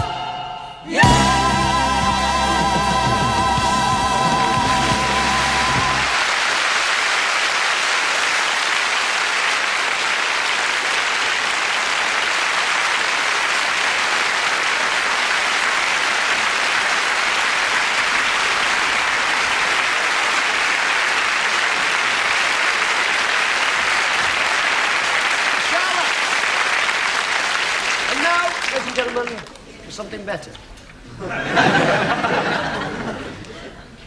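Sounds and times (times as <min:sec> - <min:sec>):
audience applauding: 0:00.9 - 0:29.7, 0:31.3 - 0:34.0.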